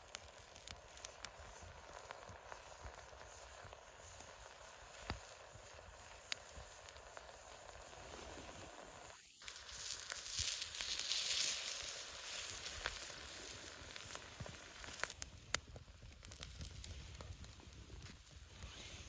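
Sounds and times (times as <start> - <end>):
campfire cooking sizzle: 0.0 - 19.0
fire crackling: 0.0 - 19.0.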